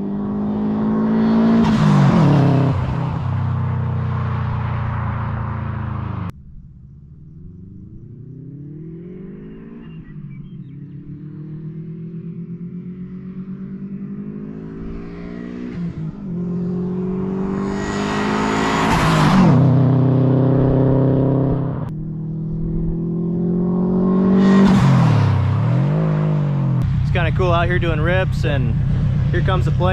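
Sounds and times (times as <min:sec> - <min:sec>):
car engine accelerating hard: 0:00.0 - 0:06.4, 0:07.3 - 0:29.9.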